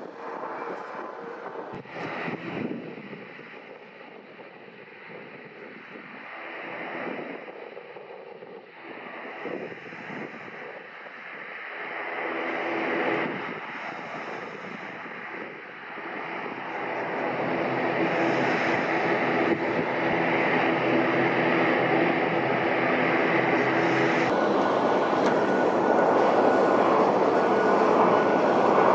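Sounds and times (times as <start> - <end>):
hum of engine tones: 0.0 - 28.9
jet engines rushing: 0.0 - 28.9.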